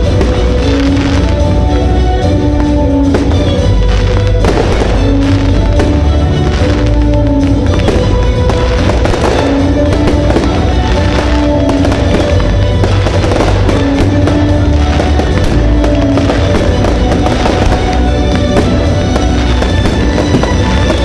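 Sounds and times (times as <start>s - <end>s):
fireworks crackling: 0.0s - 21.0s
loud music with held notes: 0.0s - 21.0s.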